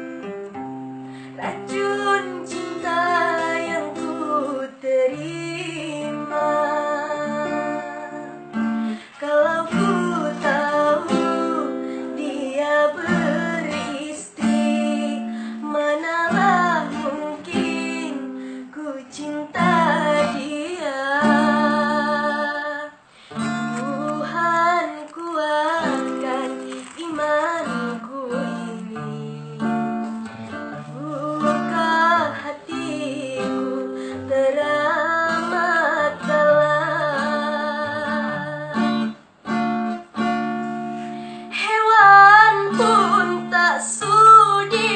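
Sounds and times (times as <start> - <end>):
woman singing with vibrato: 0.0 - 0.4, 1.3 - 39.2, 41.4 - 44.9
strummed acoustic guitar: 0.0 - 44.9.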